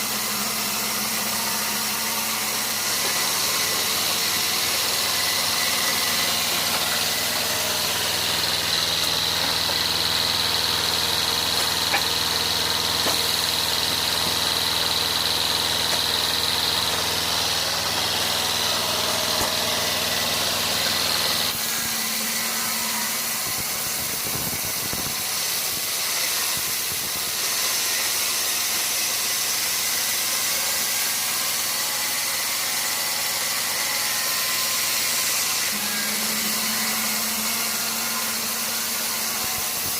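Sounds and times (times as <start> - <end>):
high machine whine: 0.0 - 39.9
sawmill machinery hum: 0.0 - 39.9.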